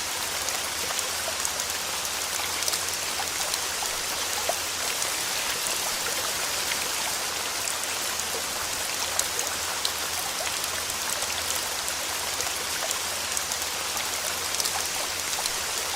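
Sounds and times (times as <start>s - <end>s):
steady rainfall: 0.0s - 15.9s.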